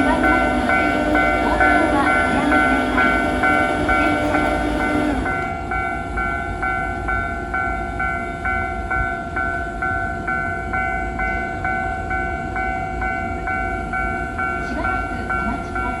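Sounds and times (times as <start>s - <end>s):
level-crossing alarm clanging: 0.0s - 16.0s.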